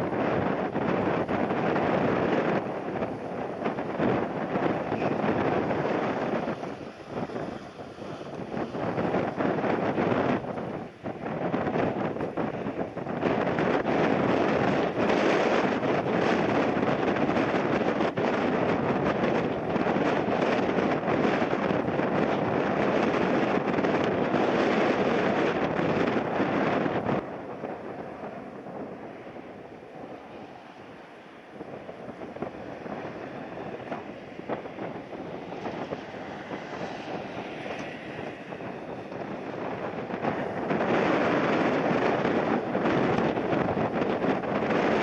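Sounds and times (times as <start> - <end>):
jet engines rushing: 0.0 - 45.0
wind buffeting microphone: 0.0 - 45.0.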